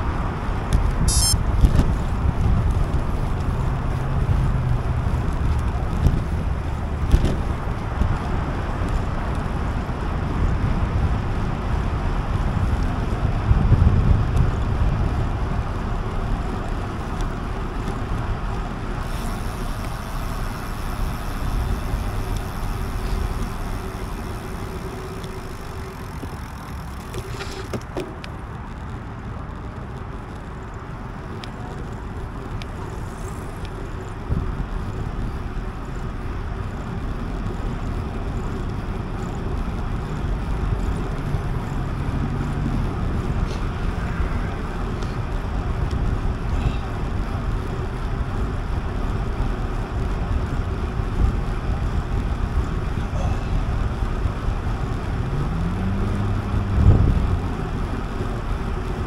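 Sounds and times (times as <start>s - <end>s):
wind buffeting microphone: 0.0s - 27.2s, 38.7s - 59.0s
tyre and road rumble: 0.0s - 59.0s.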